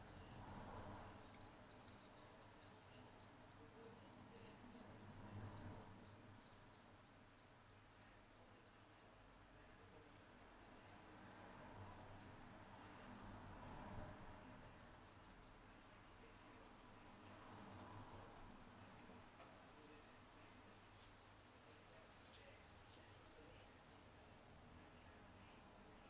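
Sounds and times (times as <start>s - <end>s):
cricket chirping: 0.0s - 25.8s.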